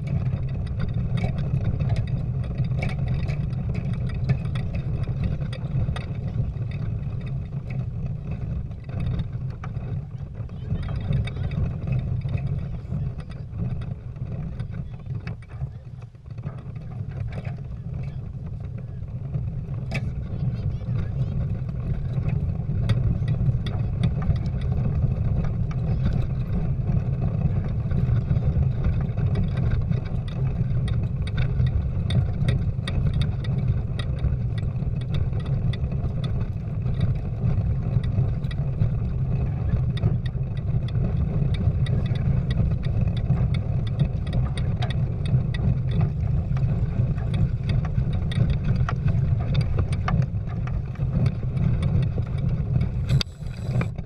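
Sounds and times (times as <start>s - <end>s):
water and wind rumble: 0.0s - 54.0s.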